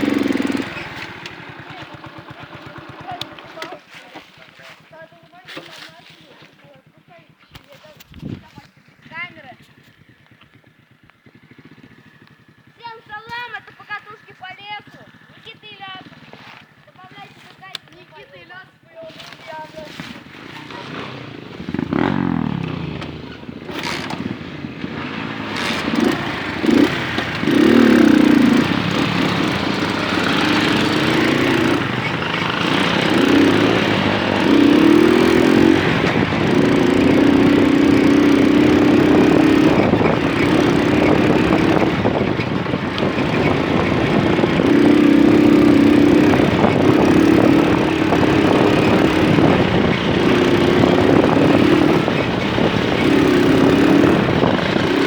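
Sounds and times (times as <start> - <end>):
wind and road noise: 0.0 - 4.6, 7.6 - 12.7, 19.2 - 55.0
moped engine running: 0.0 - 55.0.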